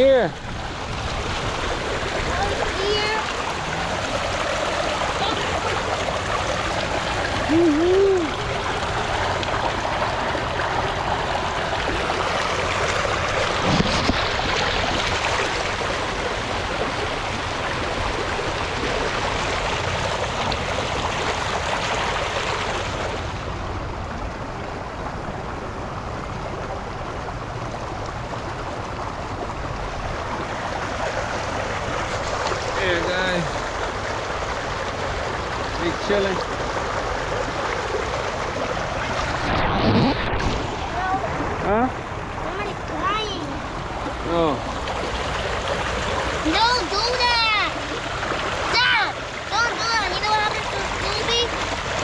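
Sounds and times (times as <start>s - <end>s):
rushing flowing water: 0.0s - 52.0s.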